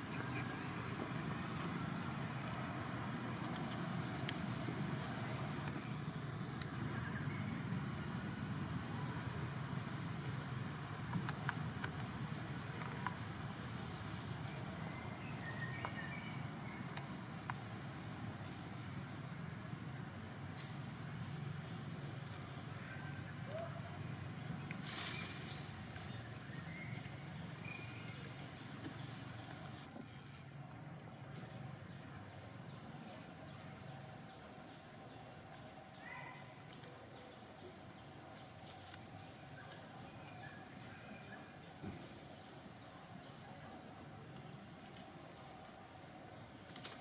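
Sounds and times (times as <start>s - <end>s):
high-pitched insect drone: 0.0s - 46.7s.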